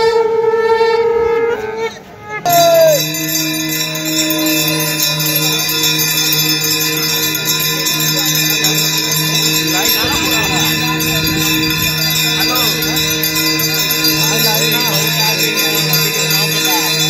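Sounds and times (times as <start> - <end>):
ringing bell-like tones: 2.5 - 17.0.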